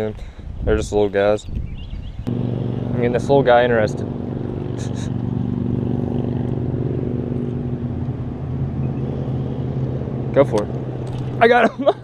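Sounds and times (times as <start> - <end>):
low mechanical hum: 2.3 - 12.0.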